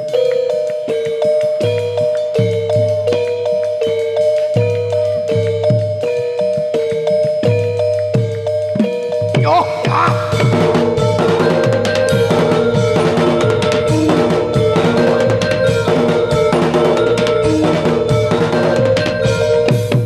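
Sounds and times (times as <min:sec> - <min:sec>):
drums steady beat: 0:00.0 - 0:20.0
held melodic tones: 0:00.0 - 0:20.0.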